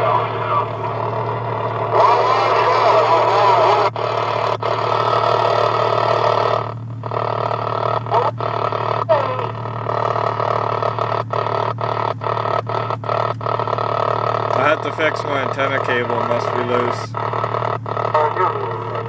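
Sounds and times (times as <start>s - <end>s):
cb radio static and warbling: 0.0s - 19.0s
garbled distant radio transmissions: 0.0s - 19.0s
steady low hum: 0.0s - 19.0s.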